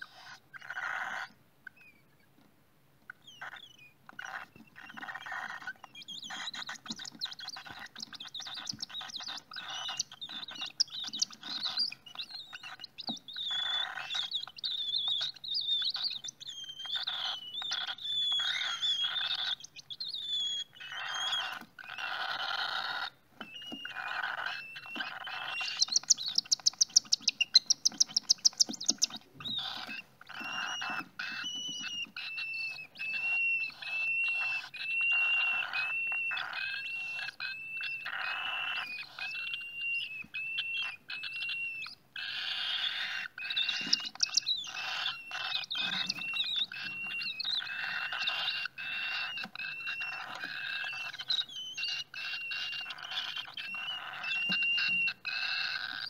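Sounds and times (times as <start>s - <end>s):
bird chicks raspy begging calls: 0.0s - 2.4s, 3.1s - 56.0s
squeaky bird notes: 3.2s - 56.0s.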